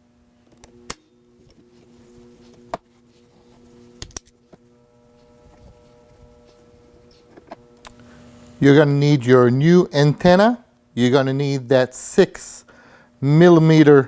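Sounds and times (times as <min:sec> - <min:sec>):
faint hum of held tones: 0:00.0 - 0:14.0.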